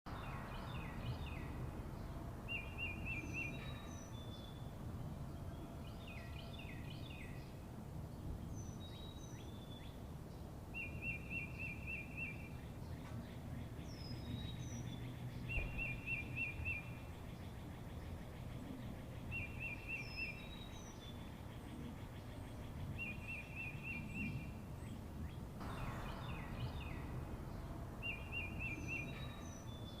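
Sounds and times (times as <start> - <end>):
low background rumble: 0.1 - 10.8, 12.4 - 30.0
birds whistling and chirping: 2.4 - 7.6, 8.2 - 10.0, 10.8 - 30.0.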